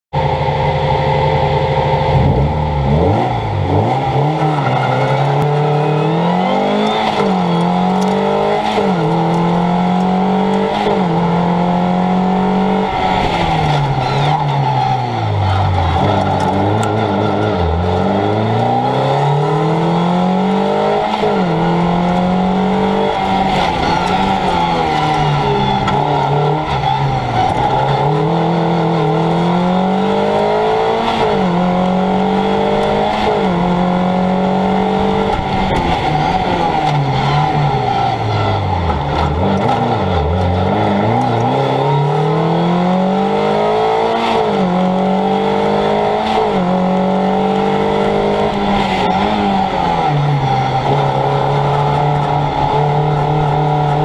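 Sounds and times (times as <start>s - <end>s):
car engine revving: 0.1s - 54.0s
road and wind noise: 0.1s - 54.0s.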